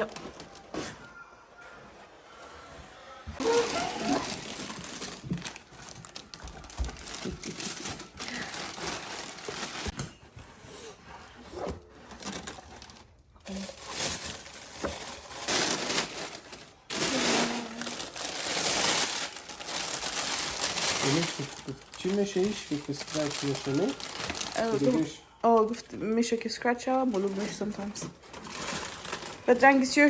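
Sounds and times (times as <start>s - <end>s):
plastic crinkling and rustling: 0.0s - 1.0s, 3.4s - 30.0s.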